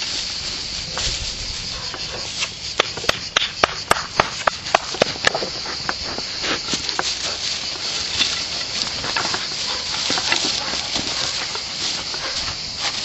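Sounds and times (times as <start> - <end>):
field crickets chirring: 0.0 - 13.0.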